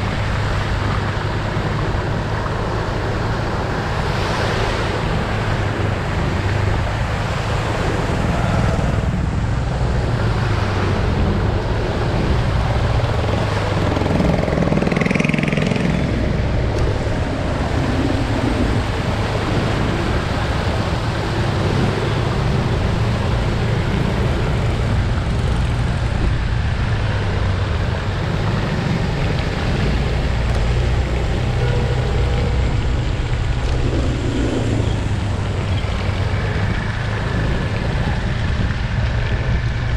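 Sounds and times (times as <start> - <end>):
scooter engine and road rumble: 0.0 - 39.9
traffic noise: 0.0 - 39.9.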